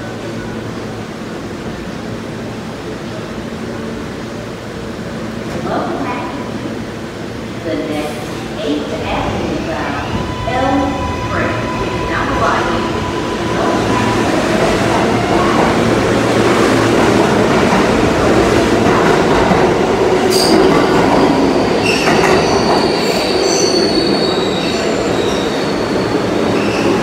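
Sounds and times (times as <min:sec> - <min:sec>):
subway train wheels rumbling on rail: 0:00.0 - 0:27.0.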